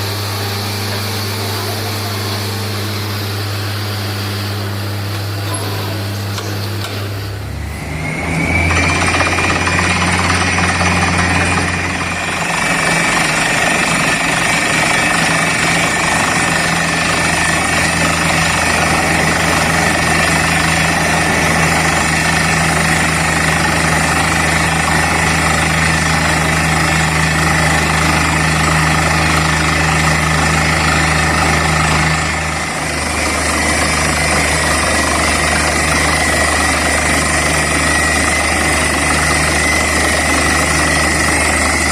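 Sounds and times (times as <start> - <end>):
engines and air compressor running: 0.0 - 41.9
rattling drilling noise: 0.0 - 41.9.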